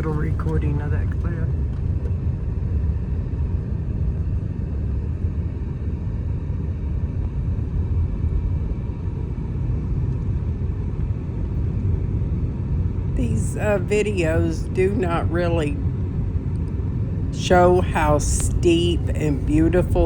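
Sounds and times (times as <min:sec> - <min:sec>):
car engine and tyre rumble: 0:00.0 - 0:03.7, 0:06.8 - 0:20.0.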